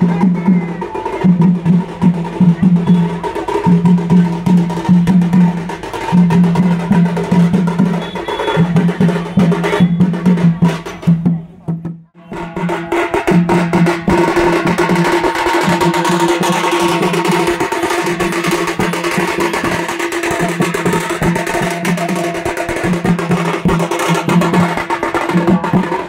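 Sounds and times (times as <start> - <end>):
barrel drums beaten fast: 0.0 - 26.0.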